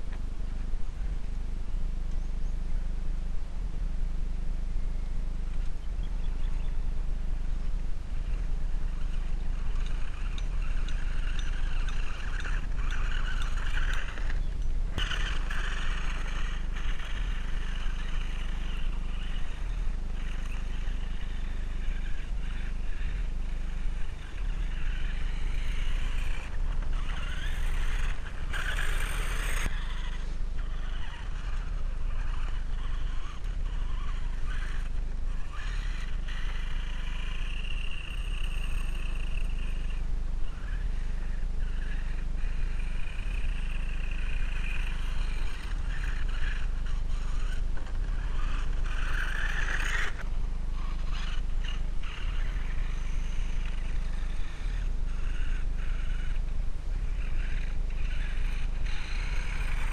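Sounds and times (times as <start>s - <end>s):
electric motor and gears whining: 0.0s - 59.9s
steady low rumble: 0.0s - 59.9s.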